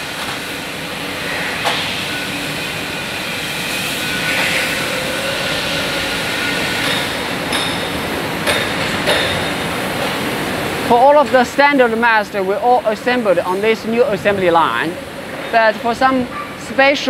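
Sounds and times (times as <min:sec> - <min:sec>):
machinery and air-handling noise: 0:00.0 - 0:17.0.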